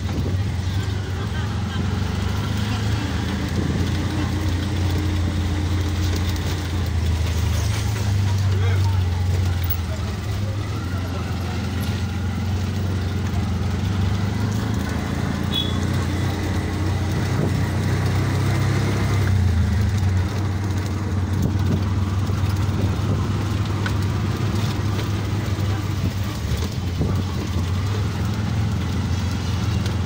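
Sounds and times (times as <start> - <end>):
auto-rickshaw engine running: 0.0 - 30.0
street noise: 0.0 - 30.0.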